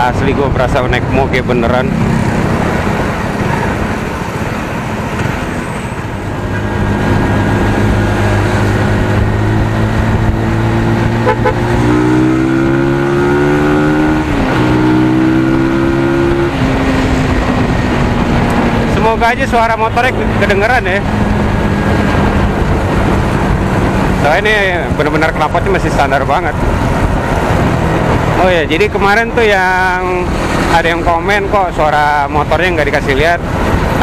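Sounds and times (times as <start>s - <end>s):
wind and road noise: 0.0s - 34.0s
motorcycle engine: 1.1s - 30.7s.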